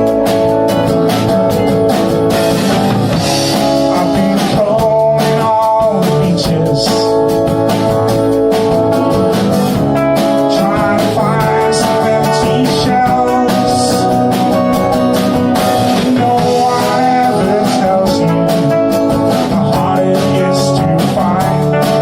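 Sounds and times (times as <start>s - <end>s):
folk band playing: 0.0s - 22.0s
strummed guitar: 0.0s - 22.0s.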